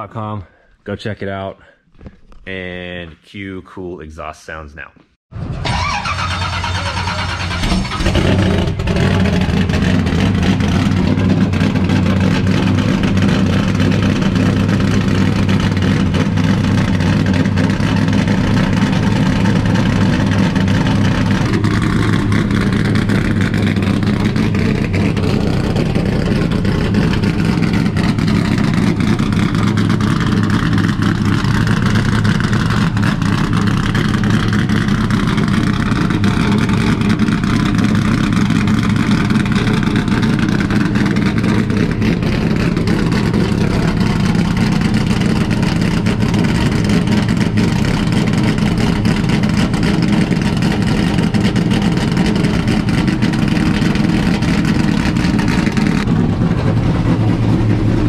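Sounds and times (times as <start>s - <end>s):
race car engine running: 5.4s - 58.0s.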